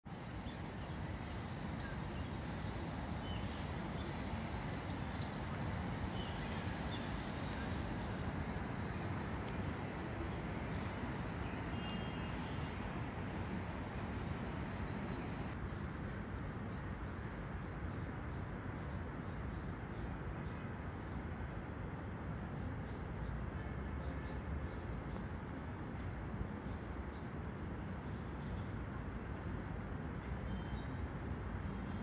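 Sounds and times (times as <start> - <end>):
low background noise: 0.1 - 32.0.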